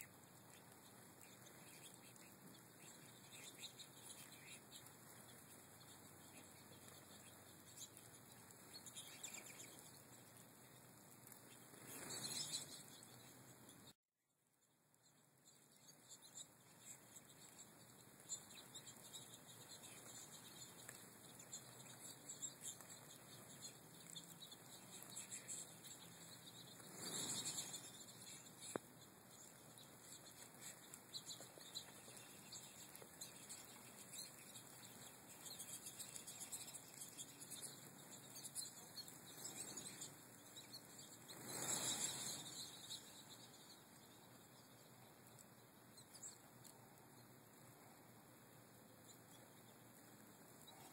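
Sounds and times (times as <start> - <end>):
goldfinches twittering: 0.0 - 10.5, 11.3 - 13.9, 15.0 - 46.4.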